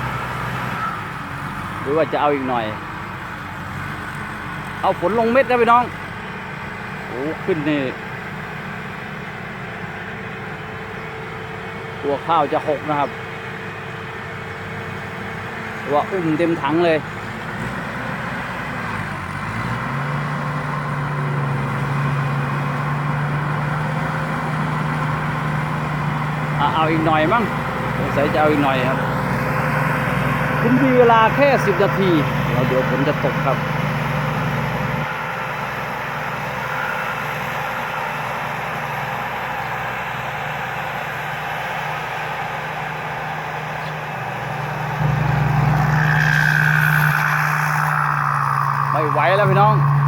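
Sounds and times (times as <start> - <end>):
diesel engine humming: 0.0 - 50.0.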